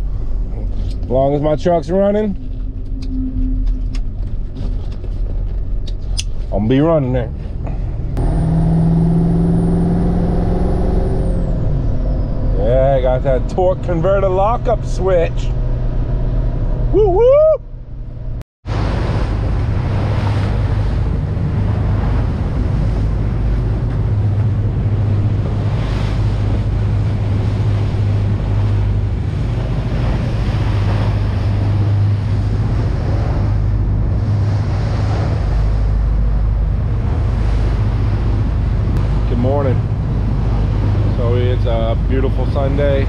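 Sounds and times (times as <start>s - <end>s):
boat engine humming: 0.0s - 43.0s
water rushing past hull: 0.0s - 43.0s
wind buffeting microphone: 0.0s - 43.0s.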